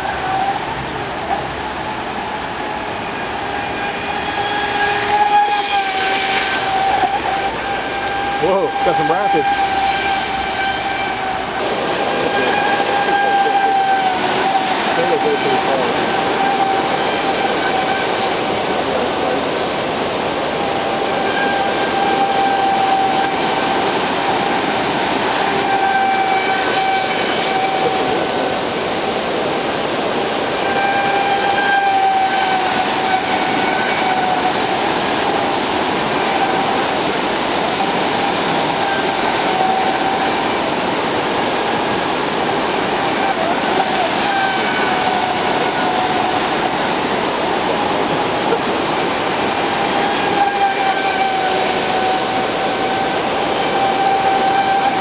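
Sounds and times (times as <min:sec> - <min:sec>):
electric motor whine of toy boat: 0:00.0 - 0:55.0
rushing water of rapids: 0:00.0 - 0:55.0.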